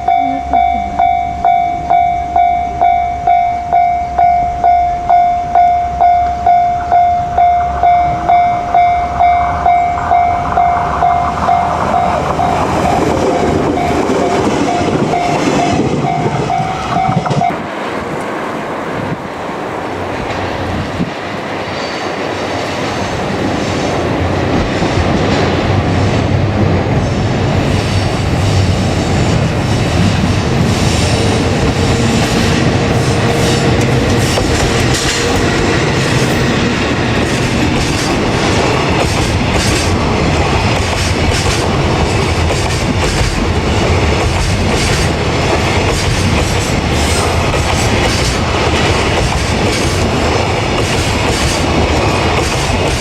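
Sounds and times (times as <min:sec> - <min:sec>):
train wheels clattering over rails: 0:06.1 - 0:53.0.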